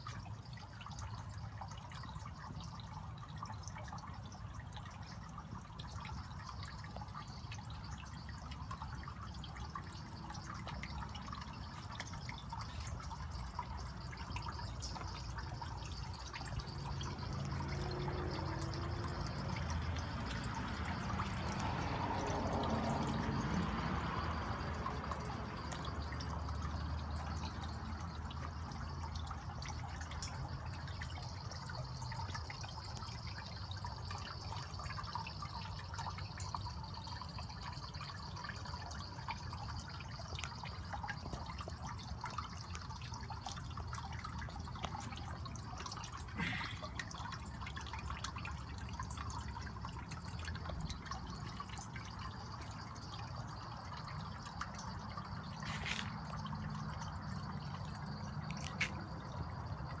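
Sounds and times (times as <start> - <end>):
water dripping into copper bowl: 0.0 - 60.0.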